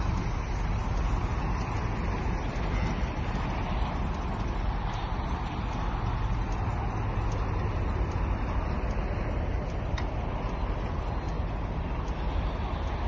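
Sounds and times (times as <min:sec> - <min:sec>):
faint regular ticks: 0:00.0 - 0:13.0
steam traction engine rumbling: 0:00.0 - 0:13.0.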